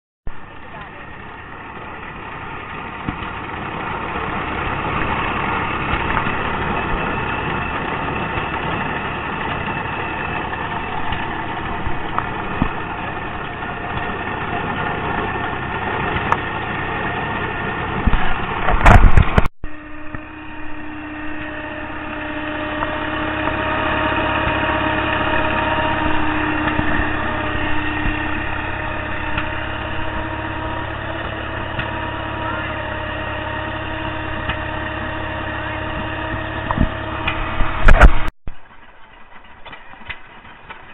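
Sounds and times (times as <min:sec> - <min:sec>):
farm engine idling: 0:00.3 - 0:40.9.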